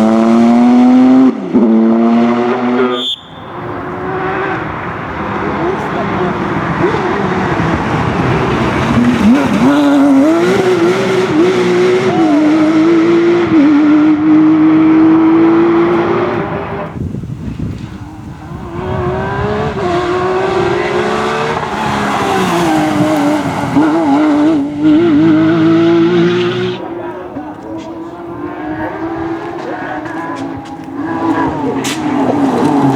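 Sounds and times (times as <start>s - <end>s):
racing car engines at full throttle: 0.0s - 32.9s.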